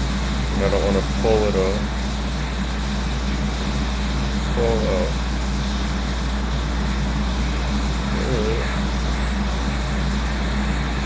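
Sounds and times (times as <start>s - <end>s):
electric blower hissing: 0.0s - 11.0s.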